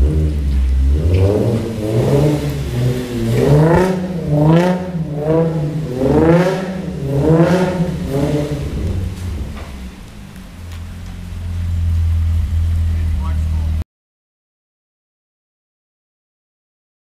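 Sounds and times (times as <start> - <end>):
car engine revving hard: 0.0 - 13.8.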